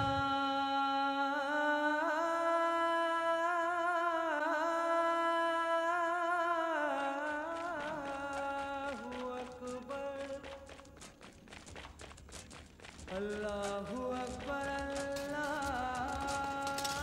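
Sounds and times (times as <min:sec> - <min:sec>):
person chanting call to prayer: 0:00.0 - 0:17.0.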